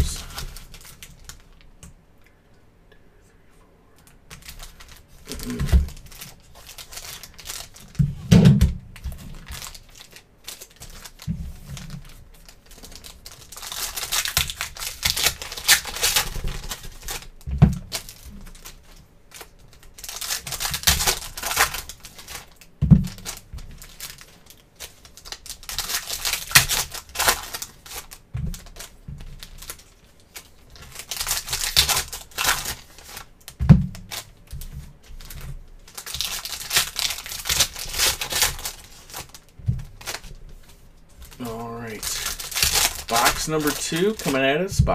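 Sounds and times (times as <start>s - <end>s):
foil wrappers tearing and crinkling: 0.0s - 1.6s, 4.3s - 44.9s.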